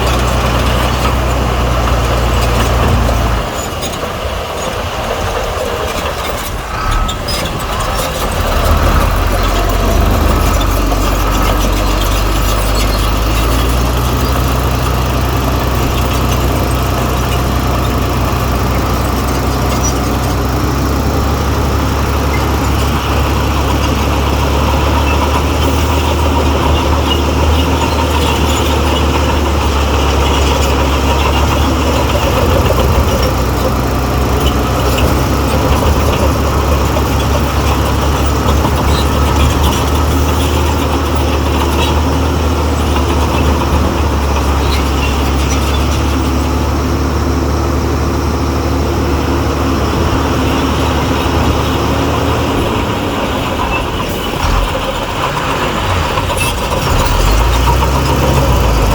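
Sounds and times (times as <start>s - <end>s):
heavy diesel engine under load: 0.0s - 58.9s.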